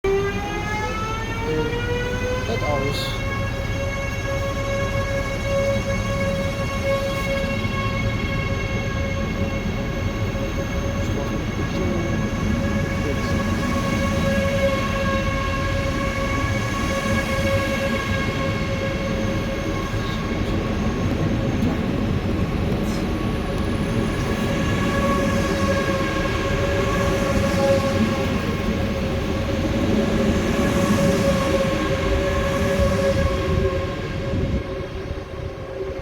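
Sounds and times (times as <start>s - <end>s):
low train rumble: 0.0s - 36.0s
train whine of pitched tones: 0.0s - 36.0s.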